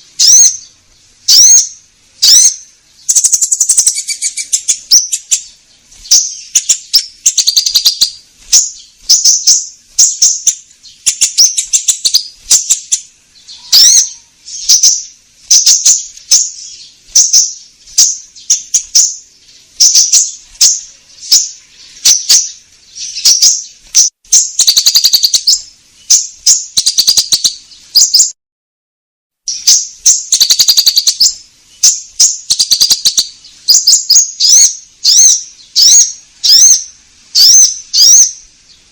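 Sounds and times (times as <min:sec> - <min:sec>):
songbird chirping song: 0:00.0 - 0:28.4, 0:29.5 - 0:38.9.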